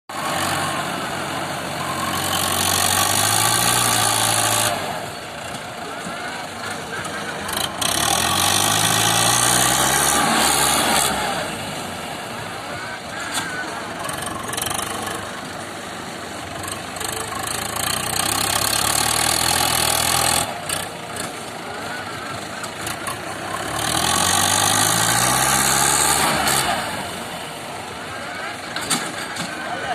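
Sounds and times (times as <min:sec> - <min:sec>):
tractor engine revving: 0:00.1 - 0:29.9.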